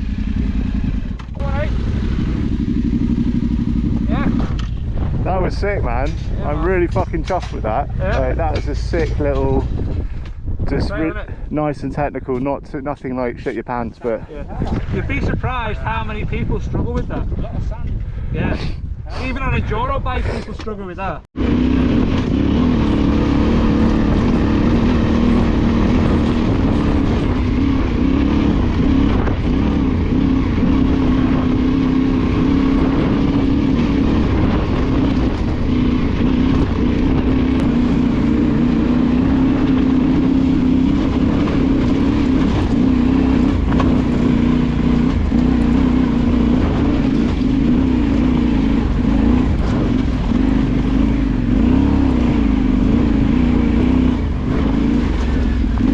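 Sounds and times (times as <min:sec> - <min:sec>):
motorcycle engine running: 0:00.0 - 0:11.1, 0:21.4 - 0:55.9.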